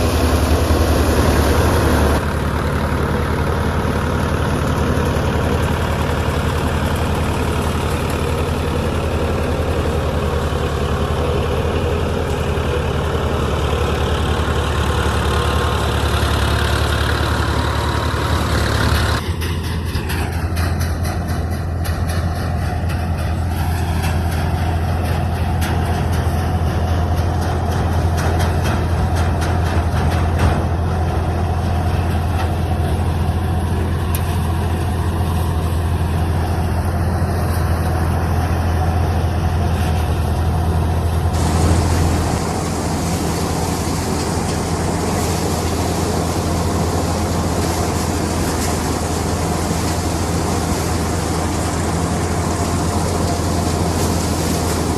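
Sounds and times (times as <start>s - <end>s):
thresher running: 0.0s - 54.9s
tractor diesel engine running: 0.0s - 54.9s.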